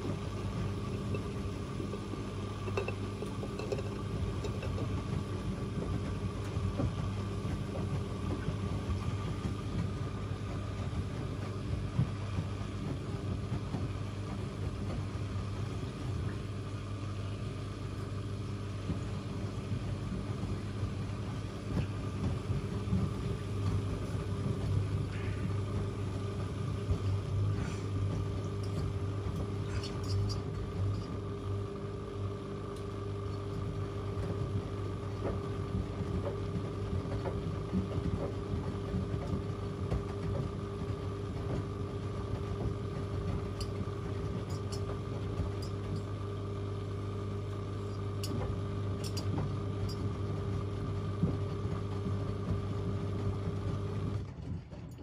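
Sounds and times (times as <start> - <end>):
washing machines running: 0.0 - 55.0.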